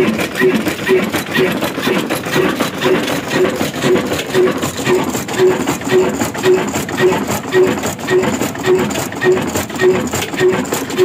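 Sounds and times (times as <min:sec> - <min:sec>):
diesel engine thudding: 0:00.0 - 0:11.0
valve gear clatter: 0:00.0 - 0:11.0.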